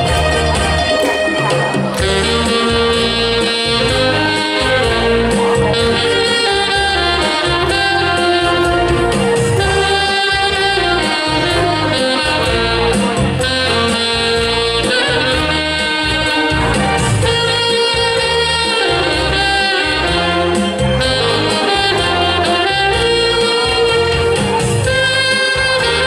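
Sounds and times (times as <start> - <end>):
saxophone ensemble playing folk tune: 0.0 - 26.0.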